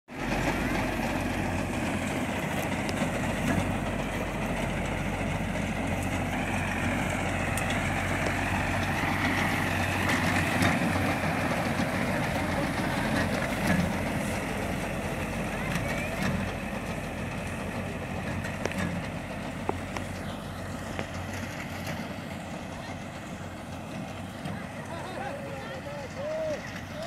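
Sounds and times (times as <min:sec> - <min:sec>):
tractor engine and reaper drone: 0:00.1 - 0:27.0.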